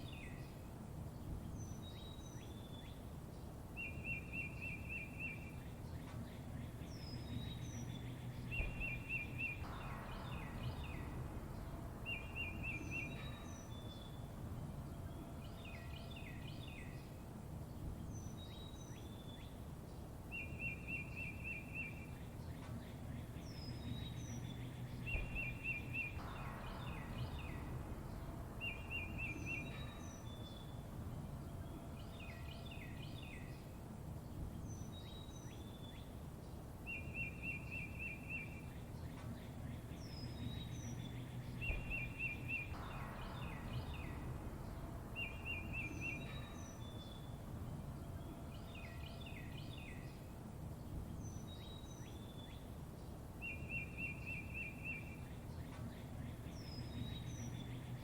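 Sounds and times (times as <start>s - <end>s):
songbirds chirping and singing: 0.0s - 58.0s
low background rumble: 5.1s - 58.0s.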